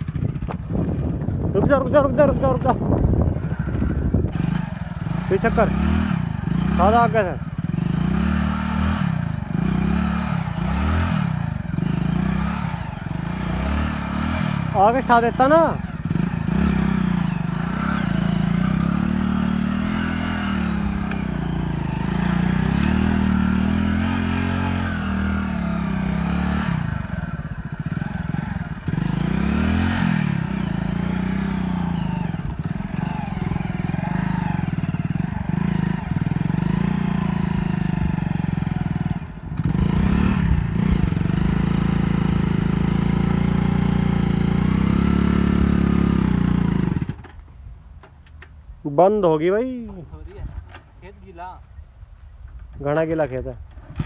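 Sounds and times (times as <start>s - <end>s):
motorcycle engine revving: 0.0s - 47.5s, 52.8s - 54.0s.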